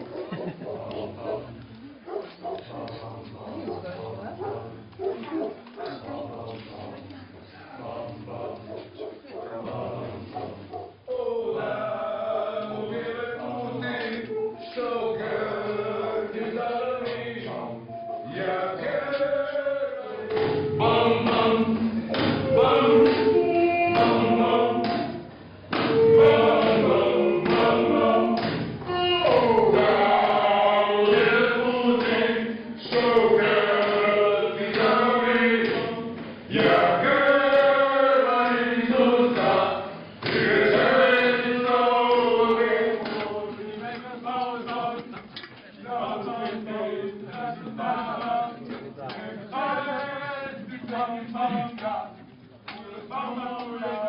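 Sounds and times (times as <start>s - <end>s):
choir singing: 0.0s - 1.7s, 5.8s - 54.0s.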